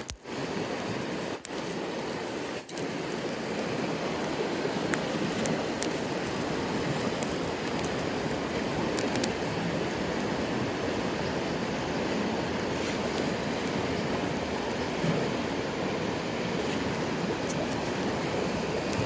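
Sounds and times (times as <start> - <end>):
campfire crackles: 0.0 - 19.0
stream rushing: 0.0 - 19.0.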